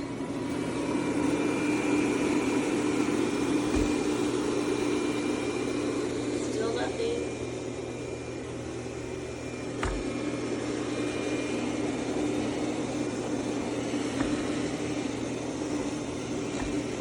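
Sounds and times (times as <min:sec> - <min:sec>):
robot vacuum whirring hum: 0:00.0 - 0:17.0.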